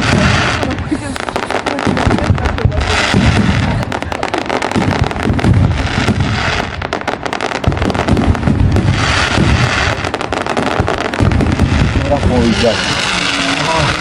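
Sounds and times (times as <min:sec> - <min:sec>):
fireworks bangs and pops: 0:00.0 - 0:14.0
fireworks crackling: 0:00.0 - 0:14.0.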